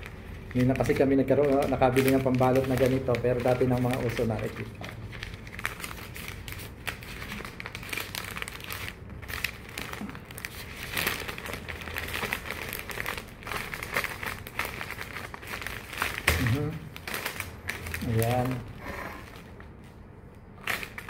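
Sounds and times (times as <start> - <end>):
wrapping material crinkling: 0.0 - 21.0.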